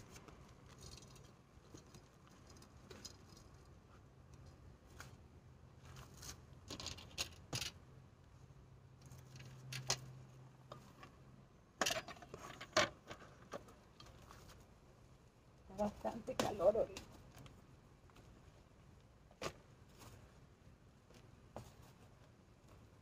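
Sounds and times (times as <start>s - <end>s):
hands rustling potting soil: 0.0s - 11.5s, 12.3s - 23.0s.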